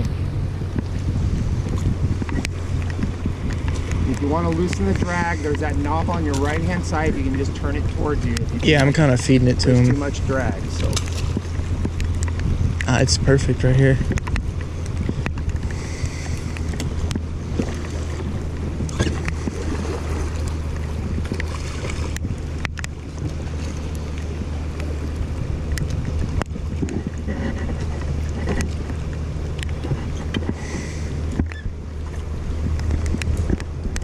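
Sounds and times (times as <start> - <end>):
river current washing: 0.0 - 34.0
wind buffeting microphone: 0.0 - 34.0.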